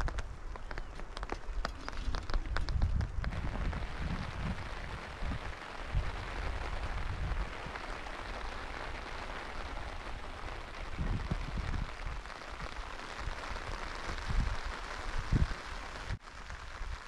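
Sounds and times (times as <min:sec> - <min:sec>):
rain hissing: 0:00.0 - 0:17.0
wind buffeting microphone: 0:00.0 - 0:17.0.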